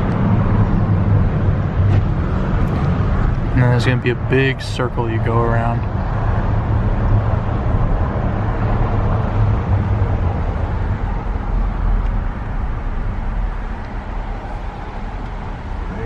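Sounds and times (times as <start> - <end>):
car driving slowly: 0.0 - 16.0.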